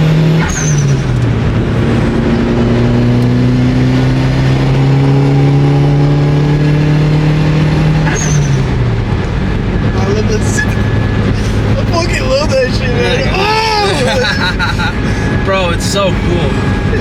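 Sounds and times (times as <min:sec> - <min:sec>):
turbocharged car engine accelerating: 0:00.0 - 0:17.0.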